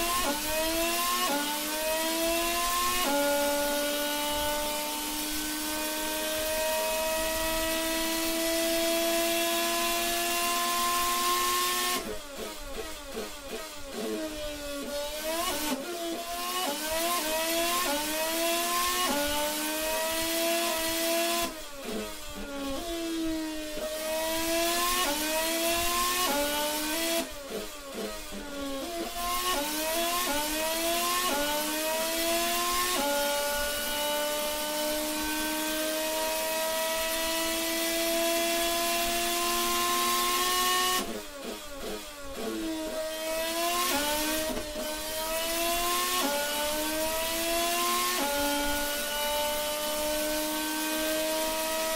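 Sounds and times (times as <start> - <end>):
racing engine revving: 0.0 - 51.9
crackling rattle of downshifts: 6.6 - 51.9.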